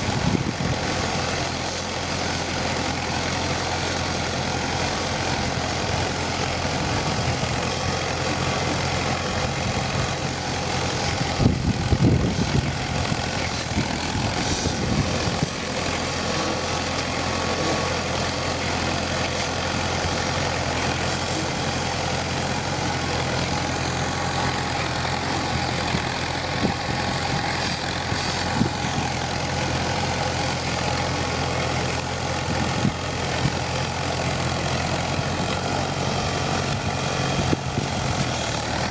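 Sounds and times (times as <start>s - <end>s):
engine knocks and rattles: 0.0s - 38.9s
tractor engine running: 0.0s - 38.9s.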